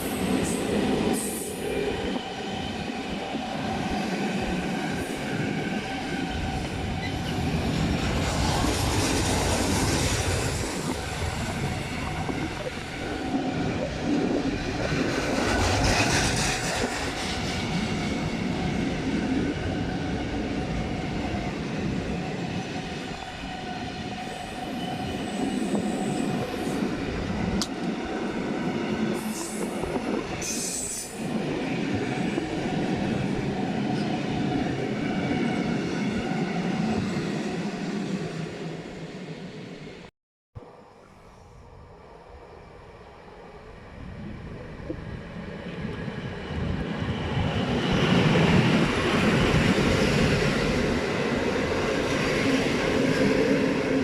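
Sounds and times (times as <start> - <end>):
train wheels rumbling on rails: 0.0 - 39.0, 43.5 - 54.0.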